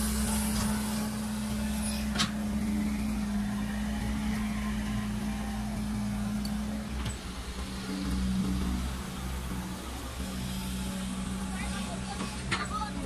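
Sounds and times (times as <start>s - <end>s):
excavator engine drone: 0.0s - 13.0s.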